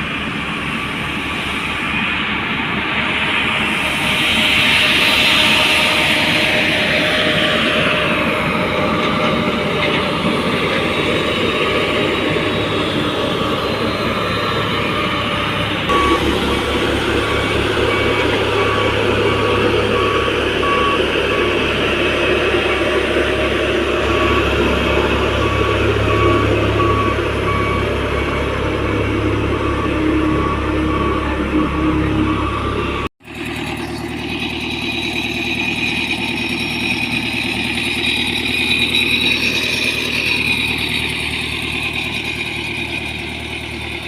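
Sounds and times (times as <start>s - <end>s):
diesel construction machine running: 0.0s - 44.0s
reversing alarm beeping: 0.4s - 44.0s.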